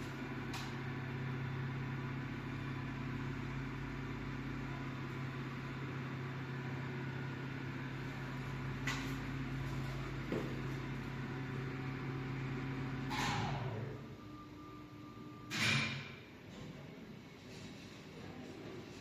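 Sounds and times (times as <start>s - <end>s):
elevator motor hum: 0.0s - 15.7s.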